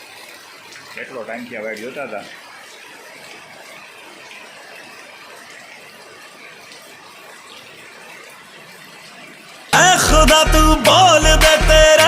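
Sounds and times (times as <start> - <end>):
rainwater running: 0.0 - 12.0
steady rain: 0.0 - 12.0.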